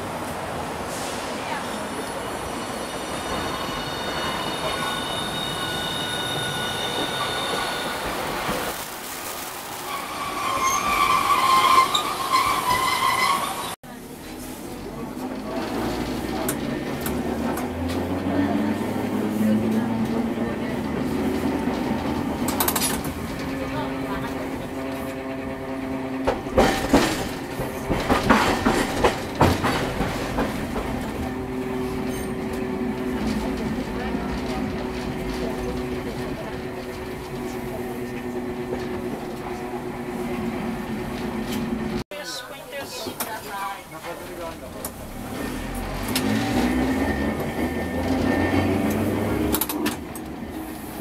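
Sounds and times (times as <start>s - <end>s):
tram rumbling: 0.0s - 51.0s
tram wheels clattering over rails: 0.1s - 9.2s, 9.8s - 42.0s, 42.9s - 51.0s.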